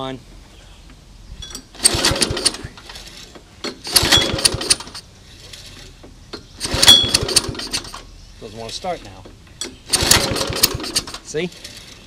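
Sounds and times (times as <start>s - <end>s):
recoil starter cranking rattle: 1.4s - 12.0s.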